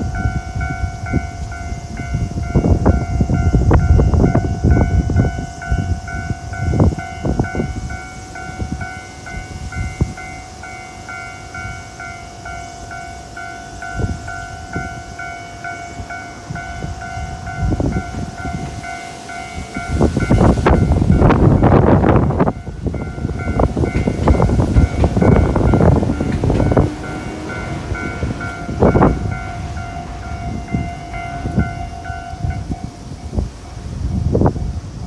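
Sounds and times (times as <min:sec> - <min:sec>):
level crossing warning bell: 0:00.0 - 0:34.9
passing train rumble: 0:00.0 - 0:35.0.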